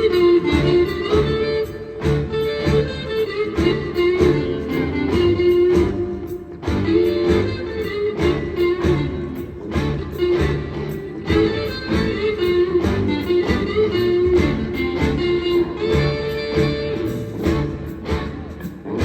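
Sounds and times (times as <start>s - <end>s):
electric blues band playing: 0.0s - 19.0s
gliding lead guitar: 0.0s - 19.0s.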